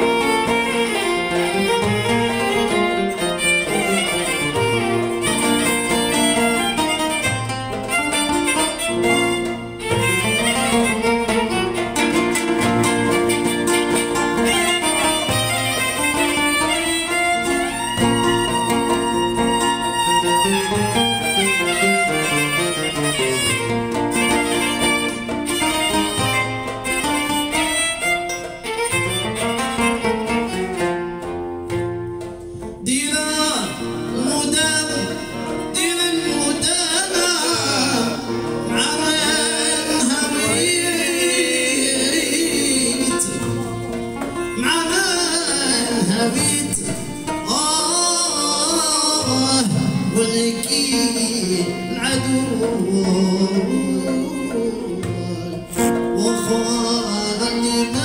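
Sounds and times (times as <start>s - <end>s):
hand drum: 0.0s - 58.0s
plucked string instrument: 0.0s - 58.0s
violin: 0.0s - 58.0s.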